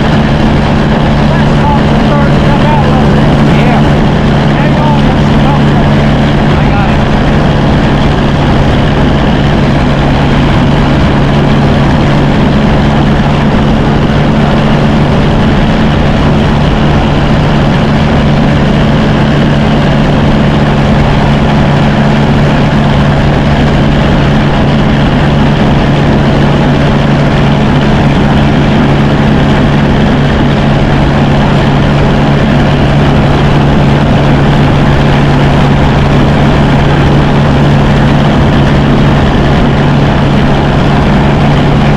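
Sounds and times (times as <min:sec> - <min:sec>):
tractor engine idling: 0:00.0 - 0:41.9.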